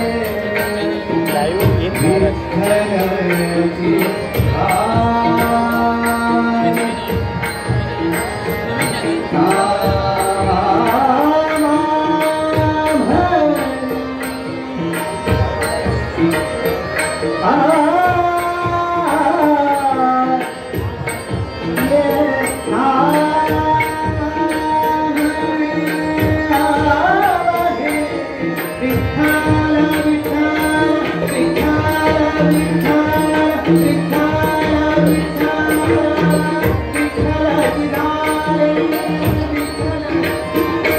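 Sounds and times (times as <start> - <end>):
man singing: 0.0 - 15.4, 16.3 - 40.9
harmonium: 0.0 - 40.9
tabla rhythm: 0.0 - 40.9.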